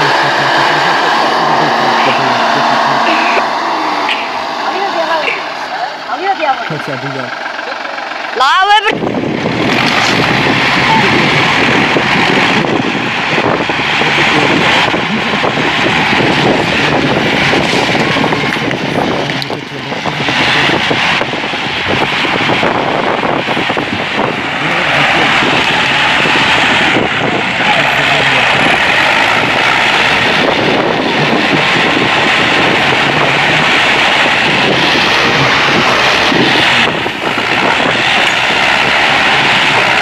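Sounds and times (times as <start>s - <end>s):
tractor engine under load: 0.0s - 40.0s.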